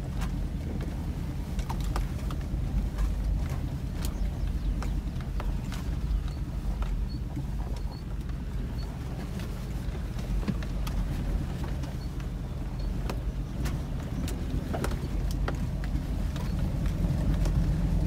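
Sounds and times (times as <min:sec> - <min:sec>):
engine and tyre rumble: 0:00.0 - 0:18.0
vehicle clicks and knocks: 0:00.0 - 0:18.0.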